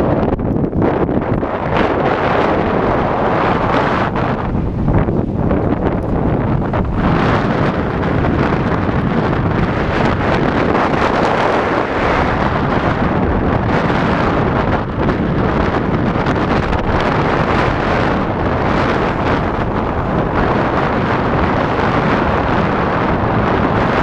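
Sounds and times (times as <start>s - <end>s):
storm wind on microphone: 0.0s - 24.0s.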